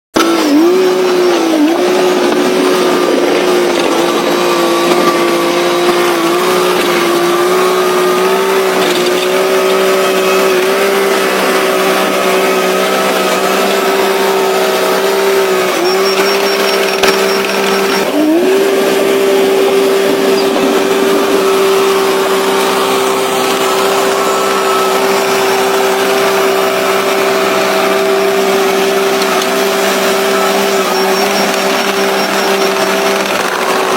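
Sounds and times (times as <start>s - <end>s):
heavy machine engine whining: 0.2s - 33.9s.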